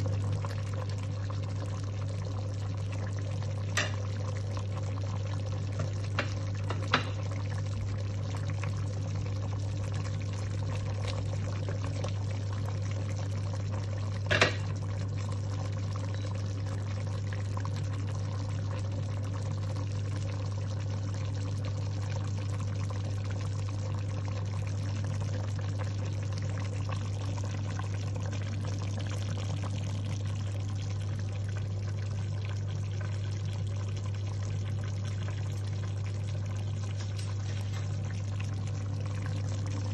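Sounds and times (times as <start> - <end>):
broth simmering in a pot: 0.0 - 39.9.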